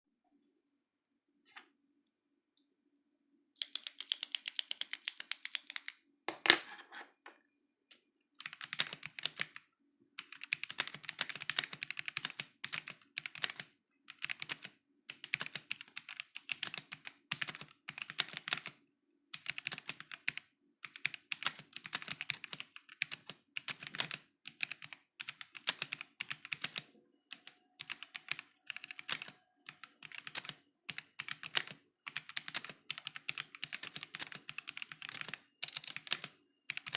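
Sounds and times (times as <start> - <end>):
mechanical keyboard typing: 3.6 - 6.0, 8.4 - 9.6, 10.2 - 36.9.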